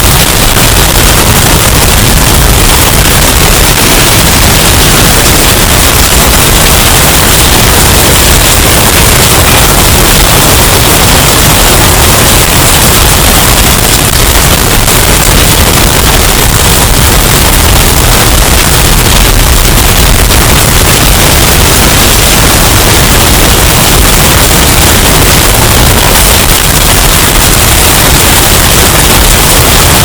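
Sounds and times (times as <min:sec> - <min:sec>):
distorted storm wind rush: 0:00.0 - 0:30.0.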